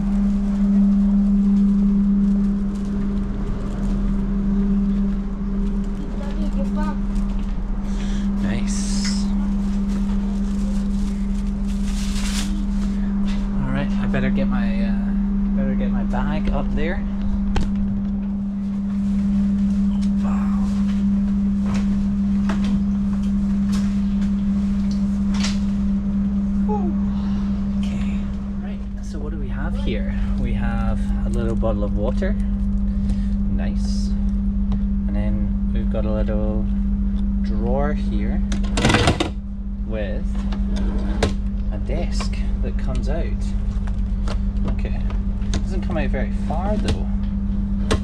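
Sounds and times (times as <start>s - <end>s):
train carriage equipment hum: 0.0s - 48.0s.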